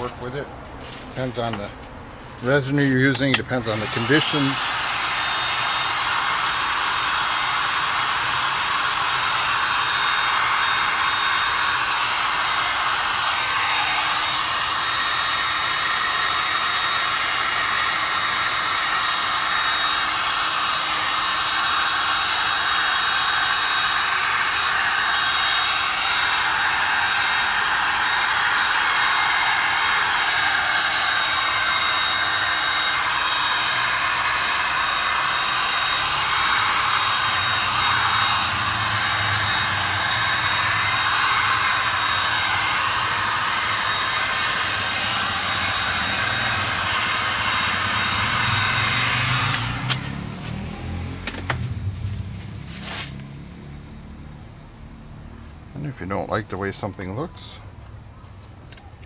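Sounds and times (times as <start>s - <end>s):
heat gun blowing air: 2.4s - 53.2s.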